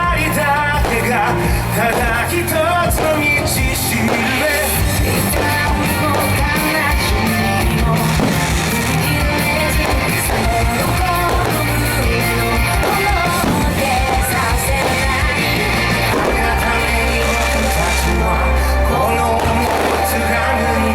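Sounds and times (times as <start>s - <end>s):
pop-rock song with guitar and bass: 0.0s - 20.9s.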